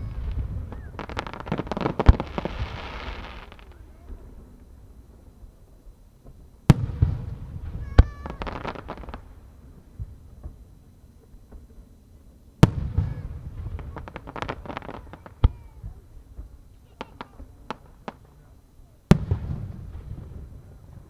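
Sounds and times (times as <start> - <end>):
firework bangs: 0.0 - 5.4, 6.2 - 10.8, 12.6 - 21.0
firework crackling: 0.0 - 21.0.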